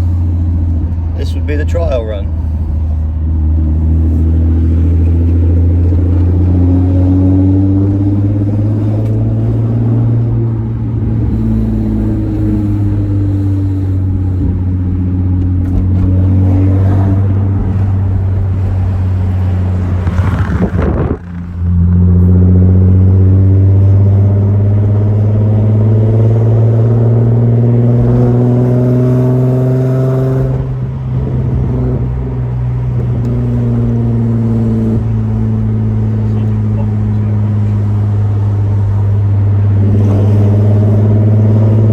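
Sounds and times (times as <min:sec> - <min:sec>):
car engine through sports exhaust: 0:00.0 - 0:41.9.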